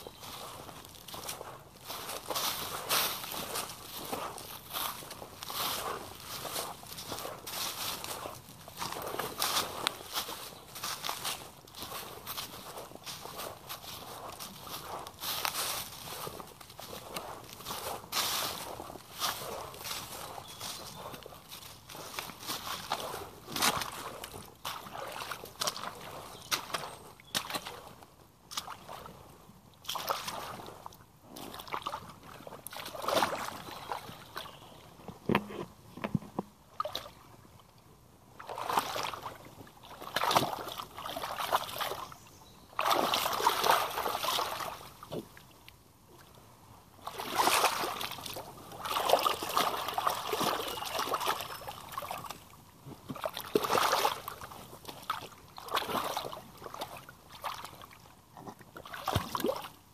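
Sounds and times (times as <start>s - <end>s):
boots splashing through muddy water: 0.0s - 29.2s, 29.8s - 34.8s, 36.8s - 37.2s, 38.4s - 45.4s, 47.0s - 59.8s.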